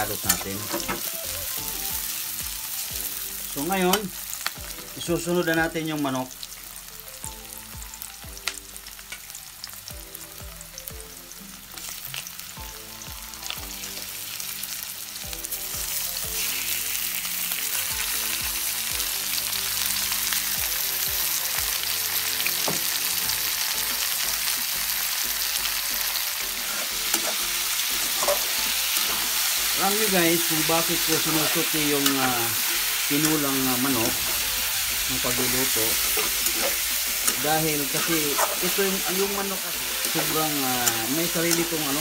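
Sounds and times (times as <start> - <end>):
oil sizzling in a wok: 0.0 - 42.0
soft background music with beat: 0.0 - 42.0.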